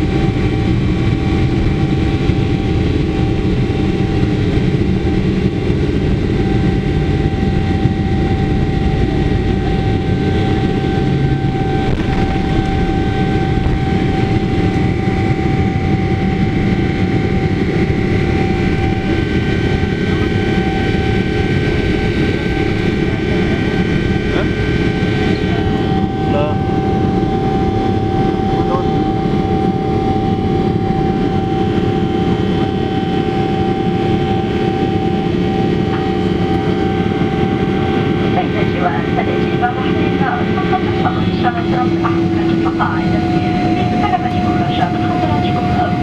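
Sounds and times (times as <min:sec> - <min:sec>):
airflow and jet engine rumble: 0:00.0 - 0:46.0
steady whining tones: 0:00.0 - 0:46.0.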